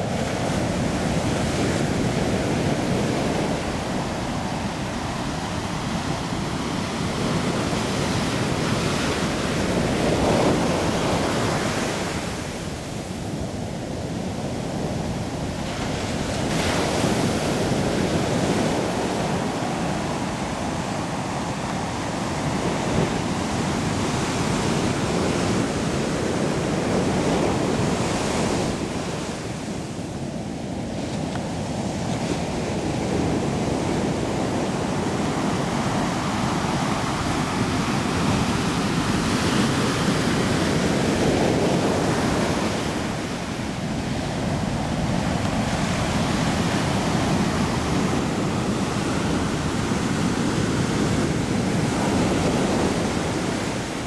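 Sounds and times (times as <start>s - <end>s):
ocean surf on beach: 0.0s - 54.0s.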